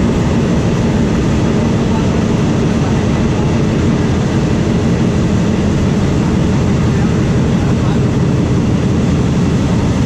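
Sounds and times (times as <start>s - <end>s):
railway carriage running noise: 0.0s - 10.0s.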